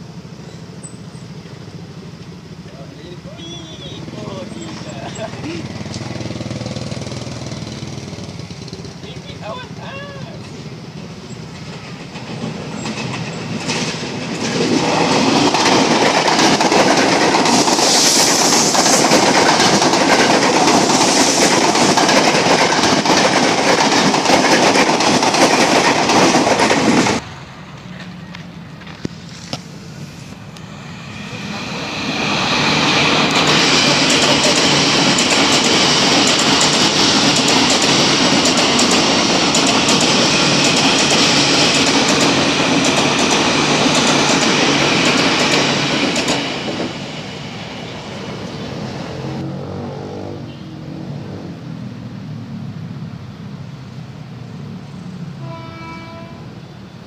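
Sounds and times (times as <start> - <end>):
electric trains passing: 0.0 - 57.0.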